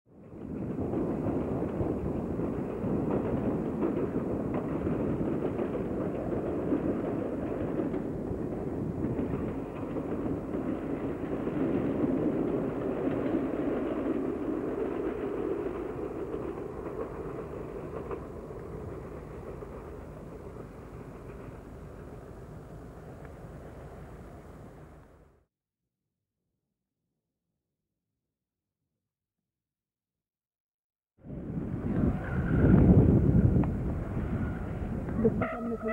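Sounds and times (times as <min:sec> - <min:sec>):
diesel railcar rumbling: 0:00.2 - 0:25.4, 0:31.3 - 0:35.9.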